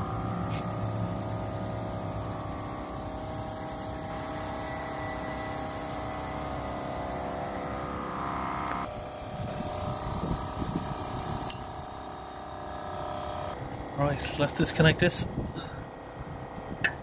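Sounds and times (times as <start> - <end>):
air compressor whining: 0.0 - 17.0.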